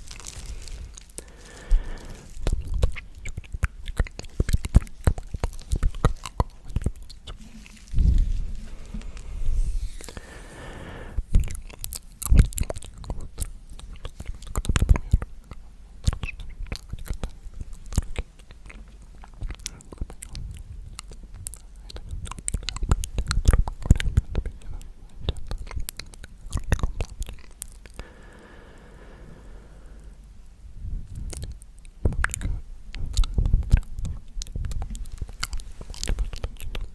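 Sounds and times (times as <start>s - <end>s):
wet mouth clicks: 1.0s - 36.9s.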